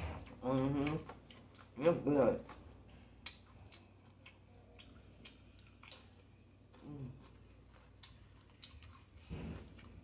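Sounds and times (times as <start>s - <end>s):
chewing crunchy food: 0.0s - 10.0s.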